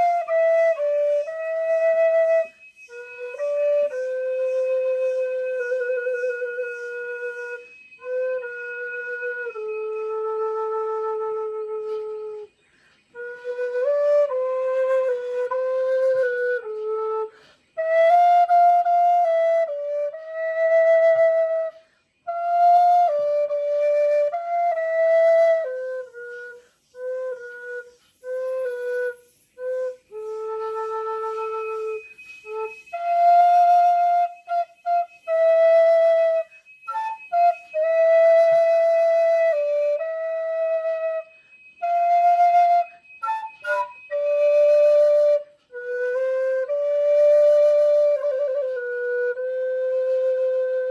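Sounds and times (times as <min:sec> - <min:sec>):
solo flute melody: 0:00.0 - 0:50.9.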